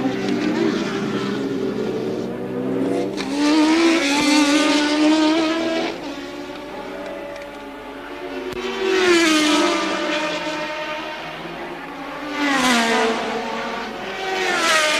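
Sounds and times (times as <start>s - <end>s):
race car engines: 0.0s - 14.9s
race car passing: 0.0s - 14.9s.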